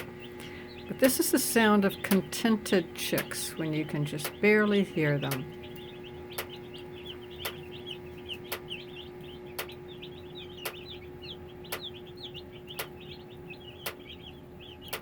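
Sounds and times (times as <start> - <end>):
chicks peeping: 0.0 - 15.0
electric fence charger clicking: 0.0 - 15.0
heater humming: 0.0 - 15.0.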